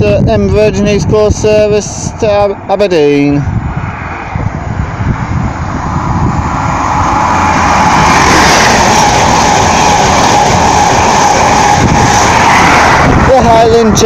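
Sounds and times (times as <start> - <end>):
steady whine: 0.0 - 14.0
train passing at speed: 0.5 - 14.0.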